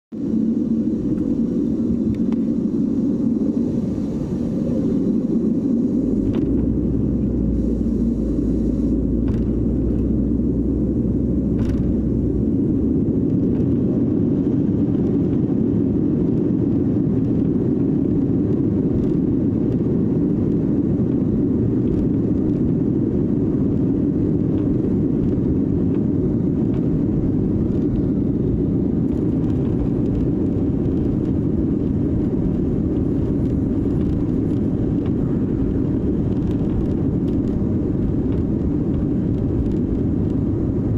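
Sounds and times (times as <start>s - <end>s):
aircraft cabin rumble: 0.1s - 40.9s
deep hum: 0.1s - 40.9s.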